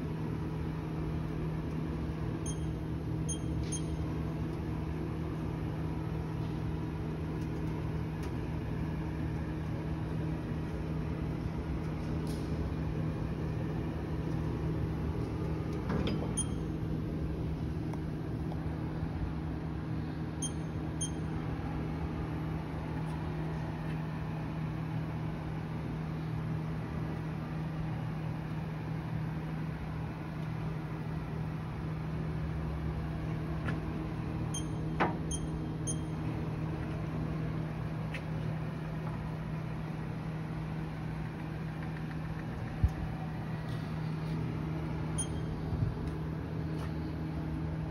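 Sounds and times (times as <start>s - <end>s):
machining center humming: 0.0s - 47.9s.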